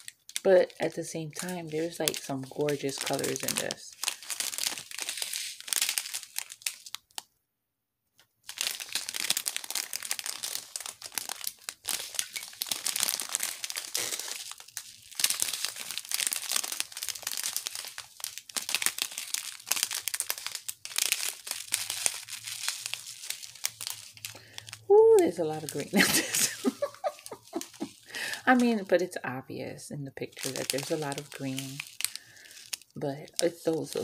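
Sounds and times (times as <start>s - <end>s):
plastic bags crinkling: 0.0s - 7.3s, 8.4s - 29.0s, 30.1s - 34.0s.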